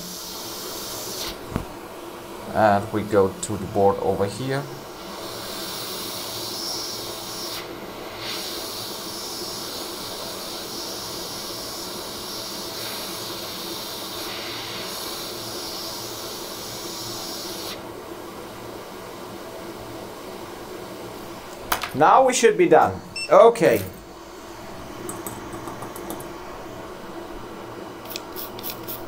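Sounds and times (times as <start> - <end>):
hot air station hissing: 0.0 - 29.0.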